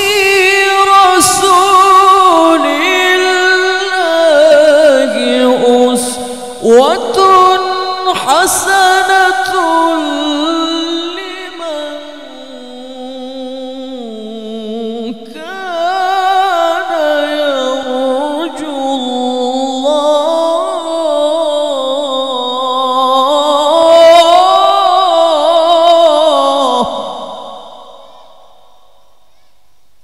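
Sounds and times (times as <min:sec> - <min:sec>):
man reciting melodically: 0:00.0 - 0:29.5.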